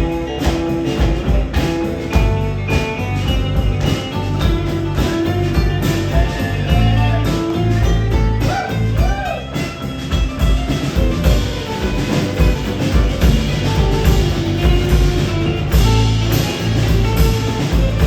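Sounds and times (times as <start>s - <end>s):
bending guitar notes: 0.0s - 18.0s
rock band playing: 0.0s - 18.0s.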